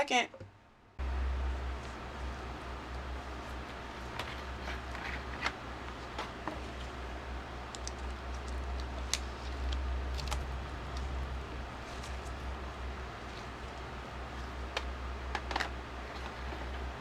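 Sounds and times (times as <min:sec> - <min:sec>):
steady low hum: 0:00.3 - 0:17.0.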